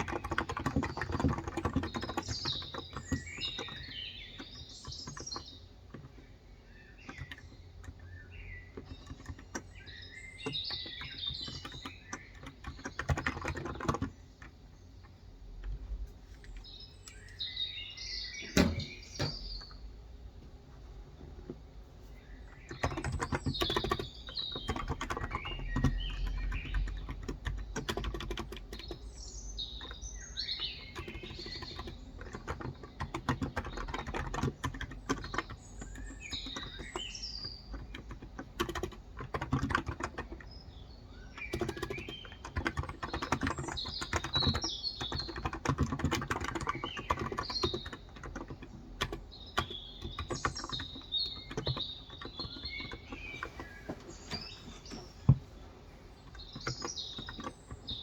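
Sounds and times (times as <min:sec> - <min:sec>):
typing on a keyboard: 0:00.0 - 0:17.4, 0:22.3 - 0:55.4, 0:56.2 - 0:58.0
birds chirping: 0:00.0 - 0:58.0.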